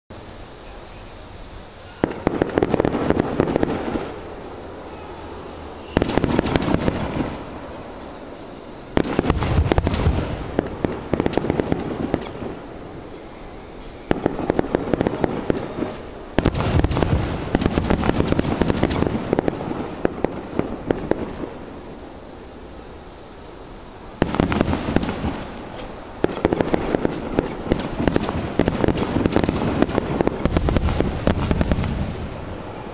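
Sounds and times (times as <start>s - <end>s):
fireworks bursting with bang: 0.1s - 32.9s
fireworks crackling: 0.1s - 32.9s.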